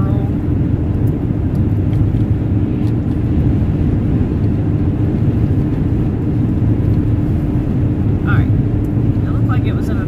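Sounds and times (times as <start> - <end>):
car cabin engine rumble: 0.0 - 10.0
constant hum: 0.0 - 10.0.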